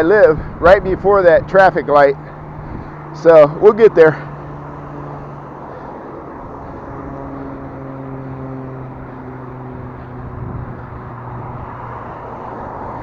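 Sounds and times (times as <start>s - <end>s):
wind noise: 0.0s - 3.7s, 6.0s - 13.0s
bicycle road noise: 0.0s - 13.0s.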